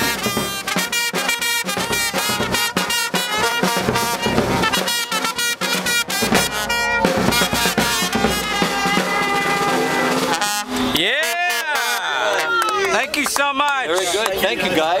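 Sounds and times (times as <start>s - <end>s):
snare drum beats: 0.0s - 12.1s
brass band playing: 0.0s - 12.4s.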